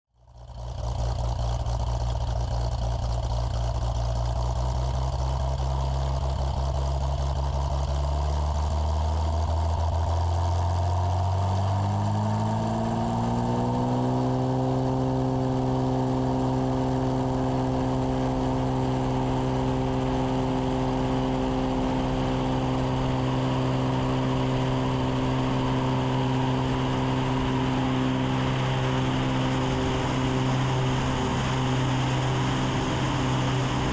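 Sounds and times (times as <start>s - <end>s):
plane engine and propeller: 0.3s - 33.9s.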